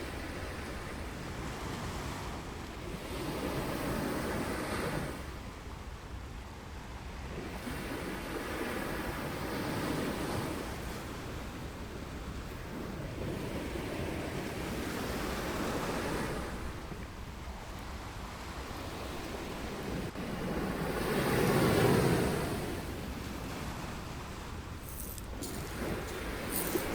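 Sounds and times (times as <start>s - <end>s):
ocean surf on beach: 0.0s - 26.9s.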